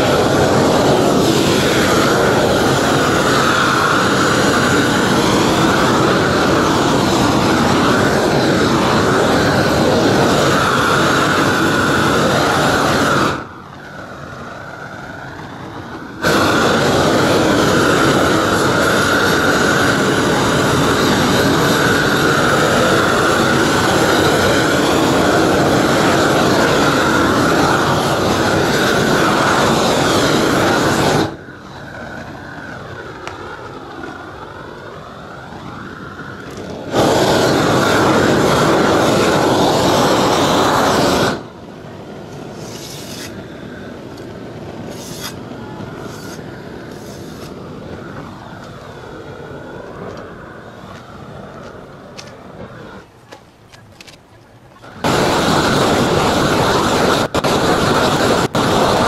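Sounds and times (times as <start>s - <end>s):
roofing torch hissing: 0.0s - 53.2s, 54.8s - 59.0s.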